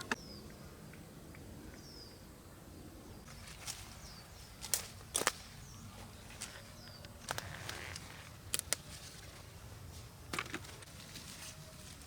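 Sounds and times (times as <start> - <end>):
rural background noise: 0.0 - 12.0.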